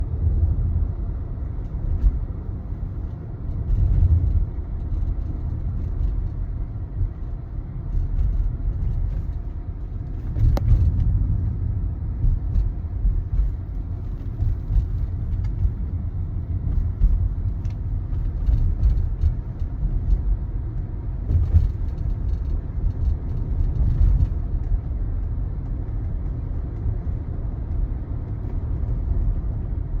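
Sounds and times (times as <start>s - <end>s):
car road rumble: 0.0s - 30.0s.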